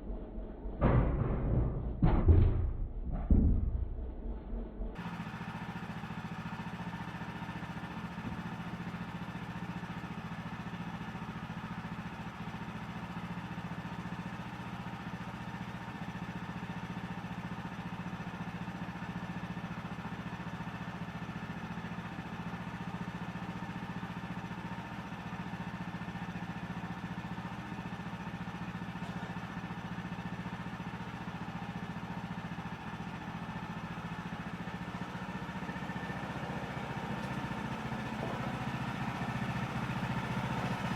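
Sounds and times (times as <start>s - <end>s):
sawmill gas engine running: 5.0s - 40.9s.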